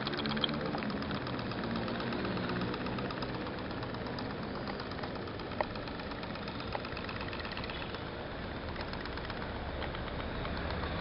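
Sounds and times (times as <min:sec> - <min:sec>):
sharp clicks: 0:00.0 - 0:11.0
toy steam boat putt-putting: 0:00.0 - 0:11.0.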